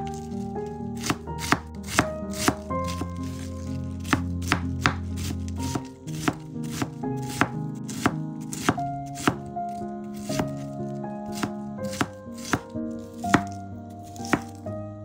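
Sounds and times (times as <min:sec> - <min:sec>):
background music: 0:00.0 - 0:15.0
knife chopping on cutting board: 0:01.0 - 0:10.7, 0:11.3 - 0:14.6.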